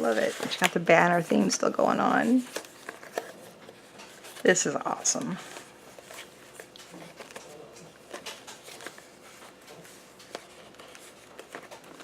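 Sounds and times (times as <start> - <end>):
paper and cardstock rustling: 0.0 - 12.0.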